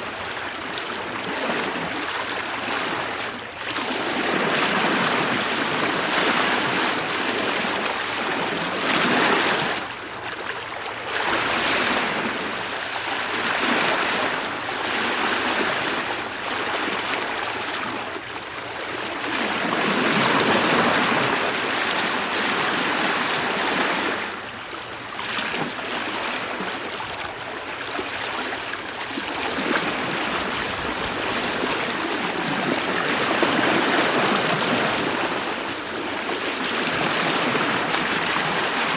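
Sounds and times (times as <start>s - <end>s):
water rushing and splashing: 0.0s - 38.9s.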